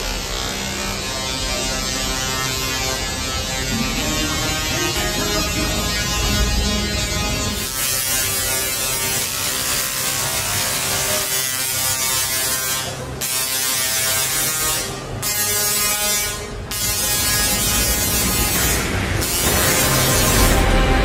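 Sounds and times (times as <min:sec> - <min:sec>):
tesla coil electric buzz: 0:00.0 - 0:21.0.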